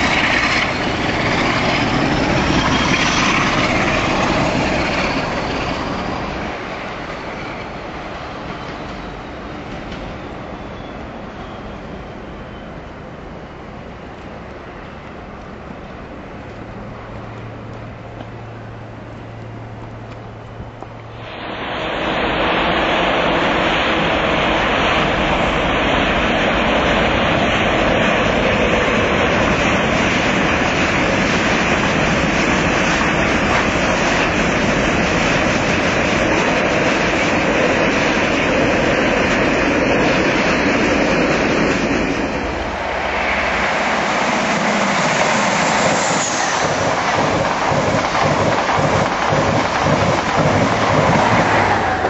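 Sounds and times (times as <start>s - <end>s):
distant locomotive engine humming: 0.0s - 52.0s
train wheels rumbling on rails: 0.0s - 52.0s.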